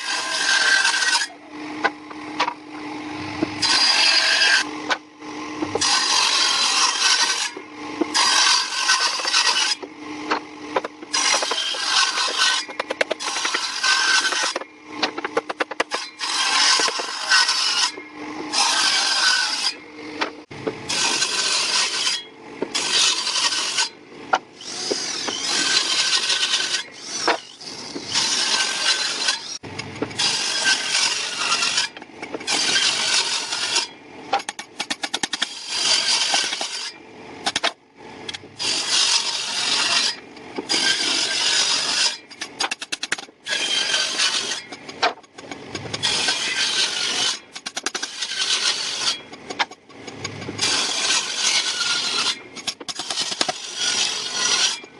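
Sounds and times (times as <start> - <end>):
tool rasping over wood: 0.0 - 5.0, 5.6 - 24.0, 24.6 - 34.5, 35.2 - 37.6, 38.6 - 54.9.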